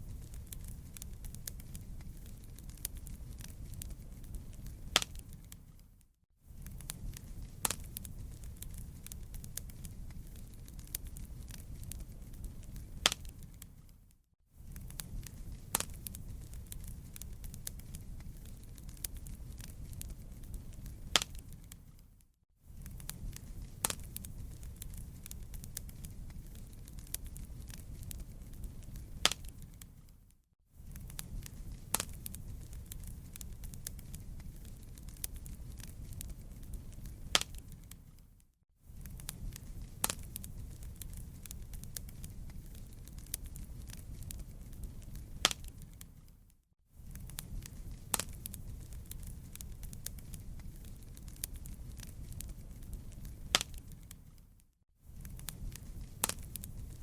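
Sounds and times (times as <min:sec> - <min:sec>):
wood fire crackling: 0:00.0 - 0:57.0
sharp pops of fire: 0:00.1 - 0:05.8, 0:06.5 - 0:13.9, 0:14.6 - 0:22.0, 0:22.7 - 0:30.1, 0:30.8 - 0:38.2, 0:38.9 - 0:46.3, 0:47.0 - 0:54.4, 0:55.2 - 0:57.0.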